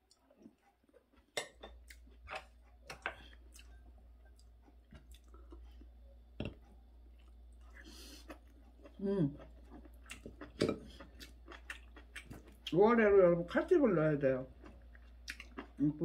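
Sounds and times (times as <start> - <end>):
person chewing: 0.0 - 12.8, 14.5 - 16.0
faint low hum: 0.0 - 16.0.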